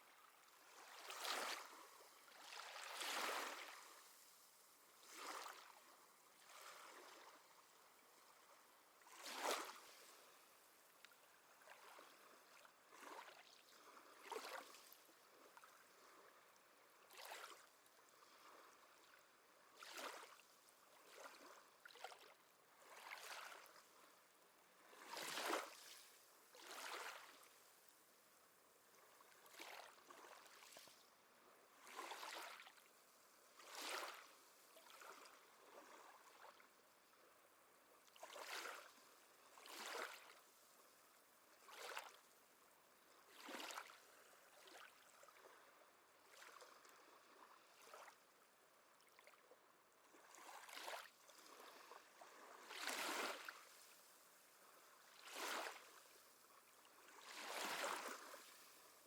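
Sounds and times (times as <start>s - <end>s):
small waves lapping: 0.0s - 48.4s, 49.0s - 59.0s.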